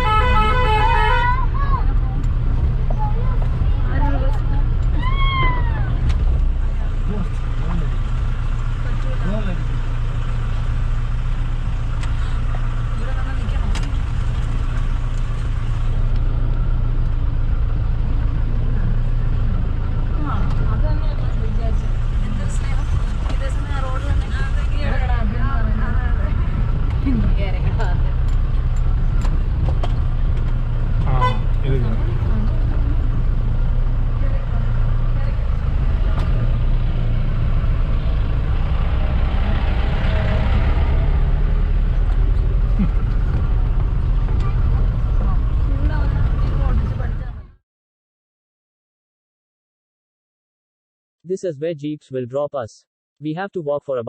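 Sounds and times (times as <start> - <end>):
car engine droning: 0.0 - 47.6
road noise: 0.0 - 47.6.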